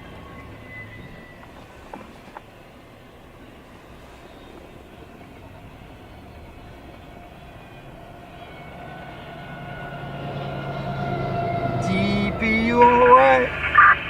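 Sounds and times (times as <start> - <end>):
diesel locomotive engine rumble: 0.0 - 14.0
steady engine tones: 0.0 - 14.0.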